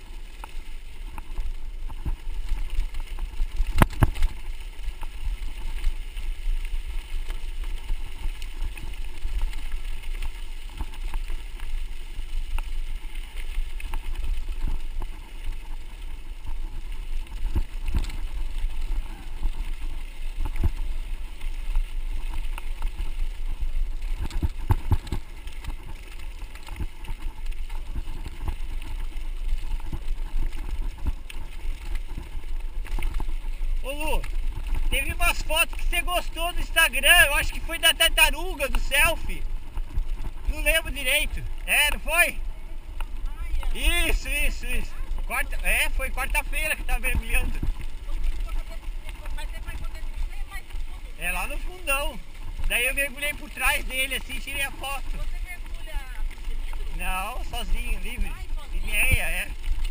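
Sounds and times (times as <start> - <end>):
bike tyres rumbling on gravel: 0.0 - 59.9.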